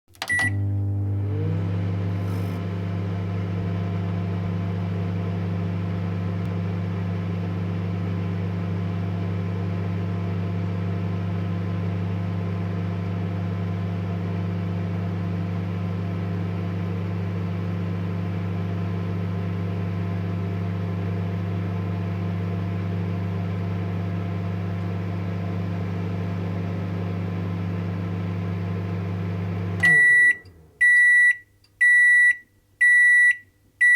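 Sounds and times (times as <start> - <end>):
microwave oven humming: 0.2 - 33.9.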